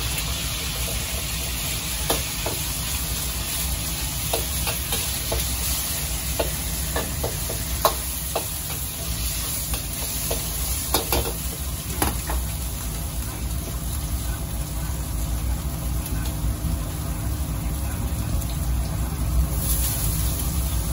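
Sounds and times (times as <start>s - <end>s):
egg sizzling in a wok: 0.0s - 17.5s, 18.5s - 20.9s.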